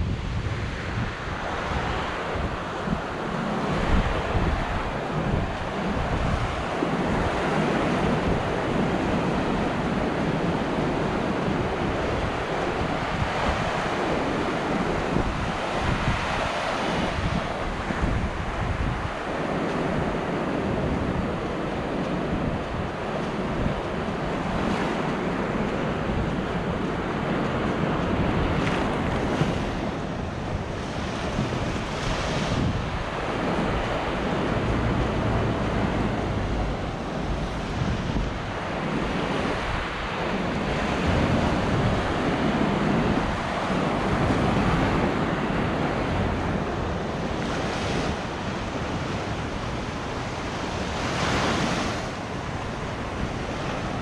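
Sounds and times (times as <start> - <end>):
sea surf breaking: 0.0 - 54.0
wind buffeting microphone: 0.0 - 54.0.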